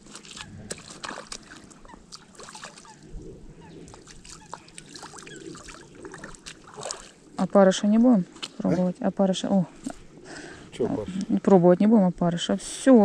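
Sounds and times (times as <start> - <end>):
water lapping at shore: 0.0 - 11.4.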